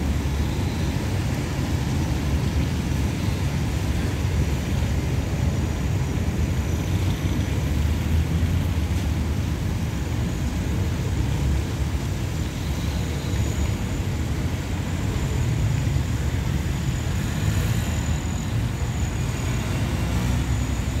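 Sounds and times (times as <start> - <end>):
faint high whine: 0.0 - 21.0
steady low outdoor rumble: 0.0 - 21.0.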